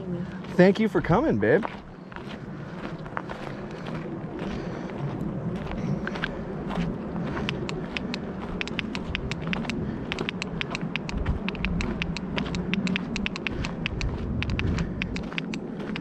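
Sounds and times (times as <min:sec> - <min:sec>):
low rumble: 0:00.0 - 0:16.0
footsteps crunching on gravel: 0:00.2 - 0:16.0.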